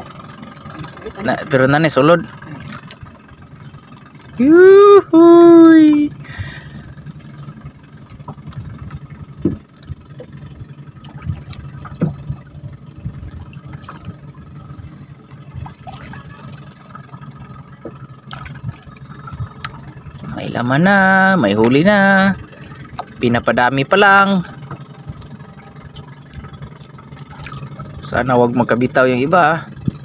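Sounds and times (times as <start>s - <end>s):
low steady hum: 0.0s - 30.0s
water sloshing and dripping: 0.0s - 30.0s.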